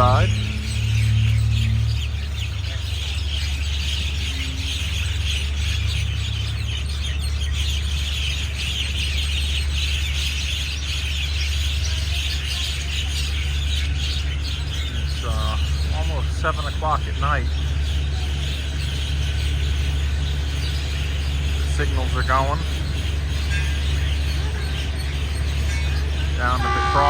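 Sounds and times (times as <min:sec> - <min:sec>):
flock of birds twittering: 0:00.0 - 0:27.0
steady low hum: 0:00.0 - 0:27.0.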